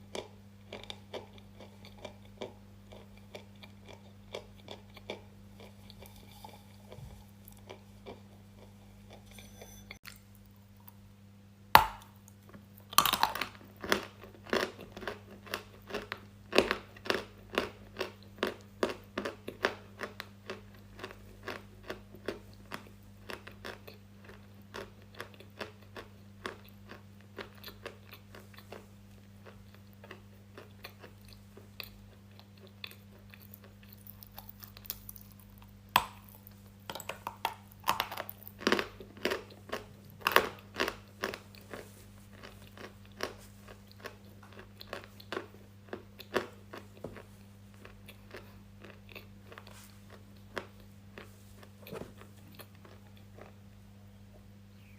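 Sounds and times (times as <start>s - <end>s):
crunchy food being chewed: 0.0s - 11.0s, 11.8s - 53.8s
faint electrical hum: 0.0s - 54.9s.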